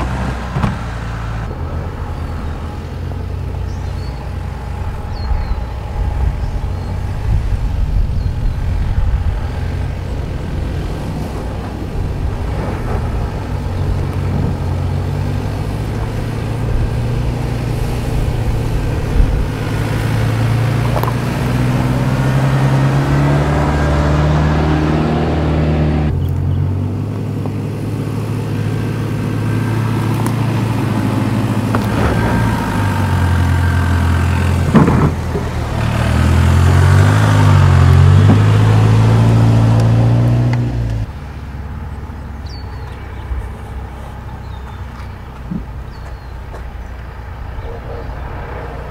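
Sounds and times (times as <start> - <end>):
suv engine revving: 0.0 - 48.9.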